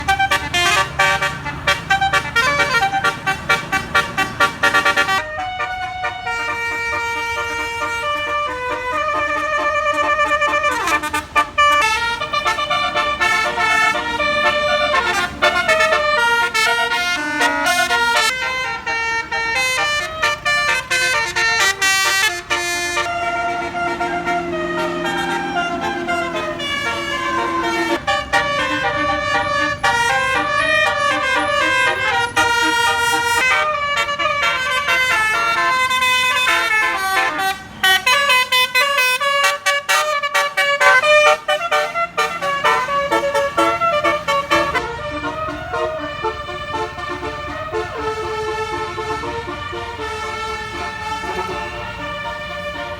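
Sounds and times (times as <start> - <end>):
bus musical horn tune: 0.0 - 52.9.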